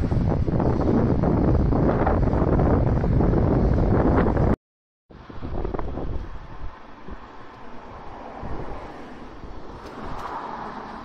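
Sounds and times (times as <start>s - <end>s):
wind buffeting microphone: 0.0s - 4.6s, 5.2s - 11.0s.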